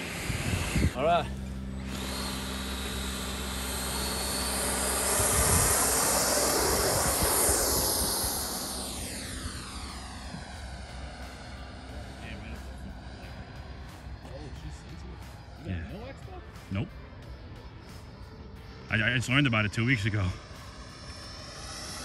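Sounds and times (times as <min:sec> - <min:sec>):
electric ducted fan whine: 0:00.0 - 0:22.0.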